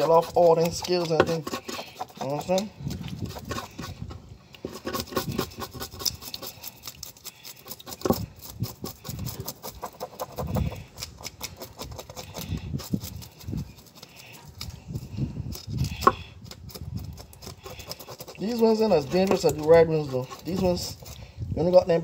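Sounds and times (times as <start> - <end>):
knife scraping fish scales: 0.0 - 22.0.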